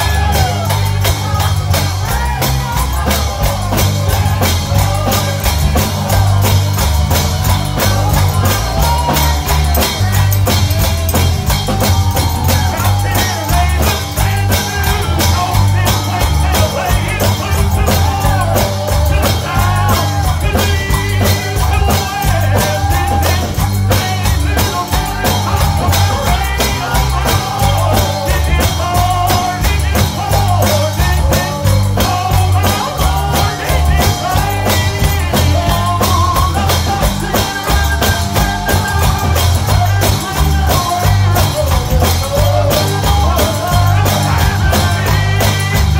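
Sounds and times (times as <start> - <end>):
gospel band music: 0.0 - 45.9
tambourine: 0.0 - 45.9.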